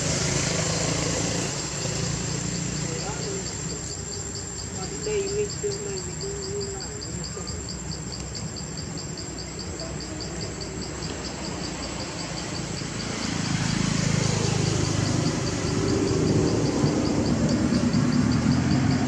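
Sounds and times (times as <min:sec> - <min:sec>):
insects chirping: 0:00.0 - 0:19.0
vehicle engine rumble: 0:00.0 - 0:19.0.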